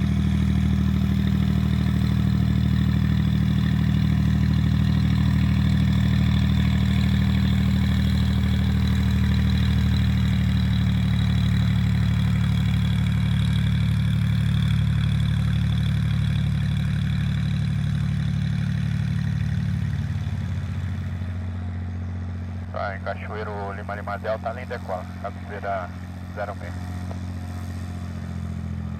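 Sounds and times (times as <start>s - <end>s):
propeller aircraft engine droning: 0.0s - 28.9s.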